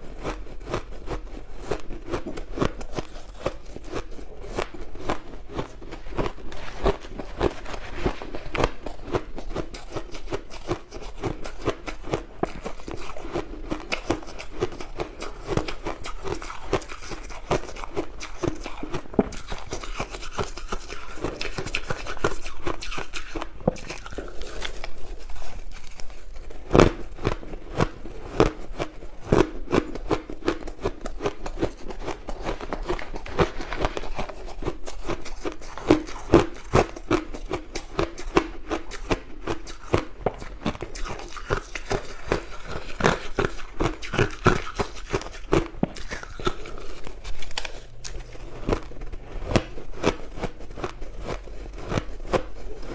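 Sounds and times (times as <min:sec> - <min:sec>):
crushed ice being chewed: 0:00.0 - 0:52.9.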